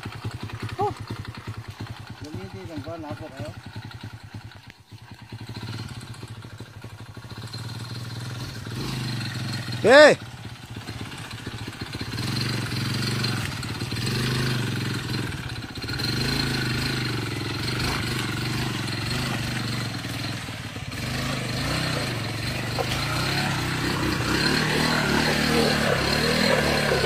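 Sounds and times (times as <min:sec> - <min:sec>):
motorcycle engine revving under load: 0:00.0 - 0:27.0.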